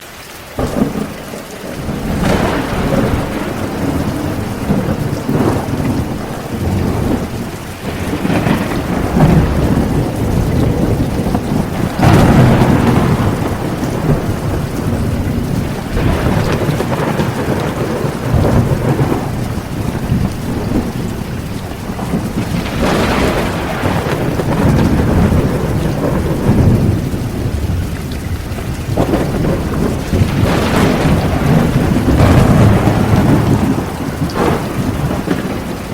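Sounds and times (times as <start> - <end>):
heavy rain pouring: 0.0 - 35.9
thunder rolling: 0.6 - 35.9.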